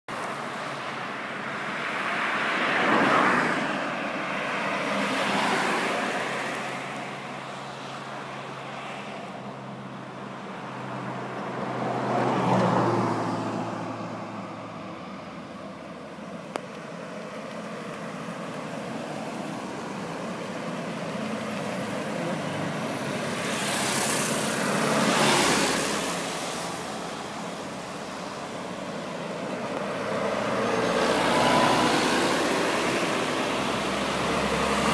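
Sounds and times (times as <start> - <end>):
traffic hum: 0.1 - 34.9
vehicles driving past: 0.1 - 34.9.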